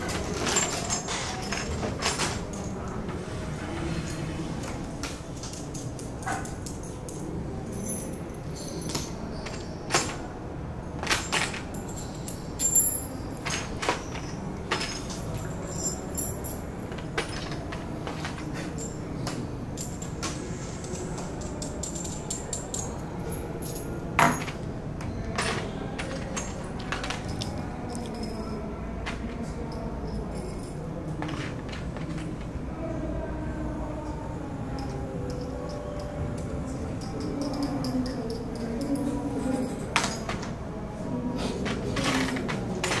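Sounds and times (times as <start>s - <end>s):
metal bolts and nuts clinking: 0.0s - 3.0s, 4.0s - 10.3s, 11.0s - 32.5s, 34.8s - 40.6s, 41.6s - 43.0s.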